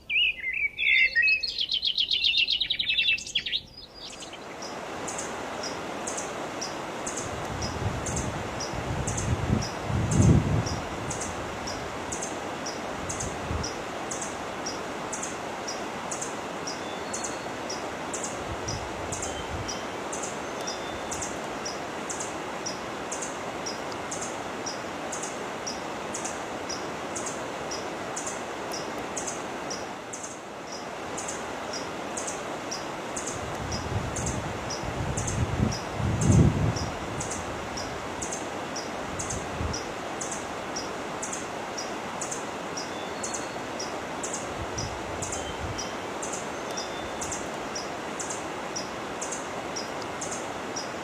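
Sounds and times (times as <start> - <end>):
rustle of wind in leaves: 0.0 - 51.0.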